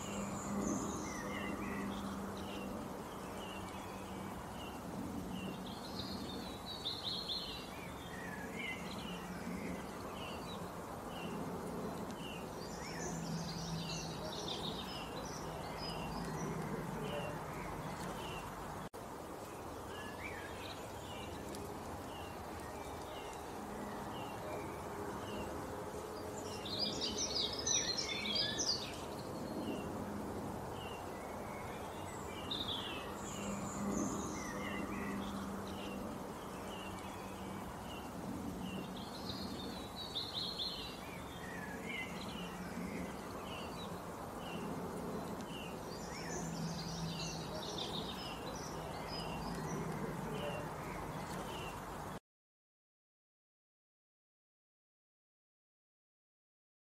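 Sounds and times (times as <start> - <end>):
birds singing: 0.0 - 30.1, 30.7 - 52.2.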